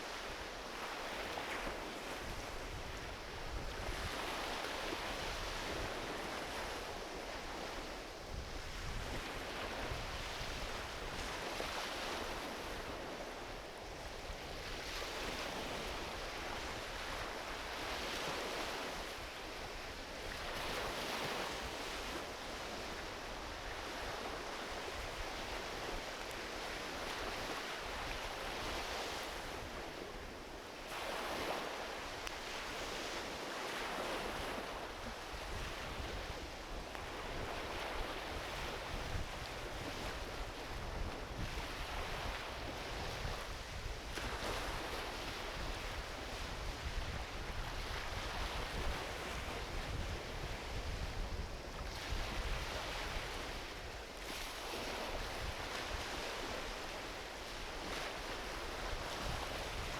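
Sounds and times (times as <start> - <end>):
ocean waves washing onto beach: 0.0 - 59.9.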